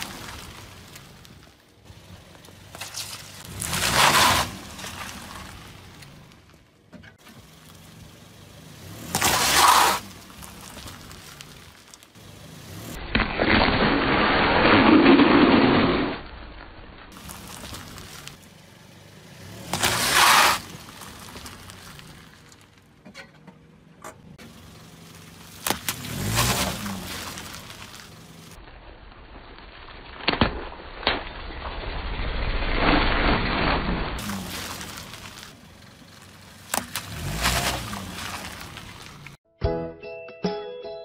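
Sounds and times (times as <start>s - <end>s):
car tyre crushing objects: 0.0s - 39.4s.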